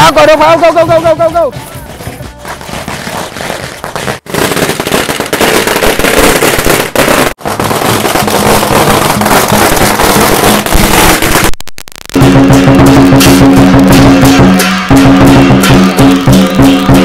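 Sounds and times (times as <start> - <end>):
firecrackers crackling: 1.9 - 17.0.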